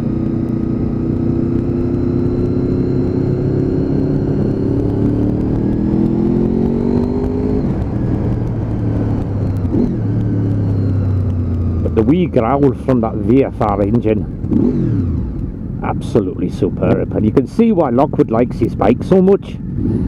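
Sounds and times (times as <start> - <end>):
motorcycle engine accelerating: 0.0 - 20.0
wind noise: 0.0 - 20.0.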